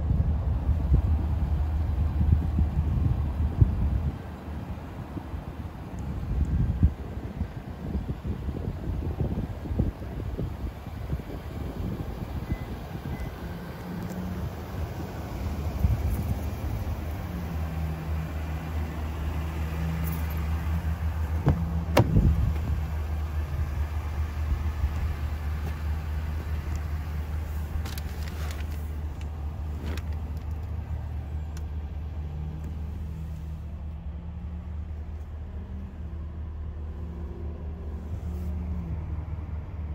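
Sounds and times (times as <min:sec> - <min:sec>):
truck engine idling: 0:00.1 - 0:36.9.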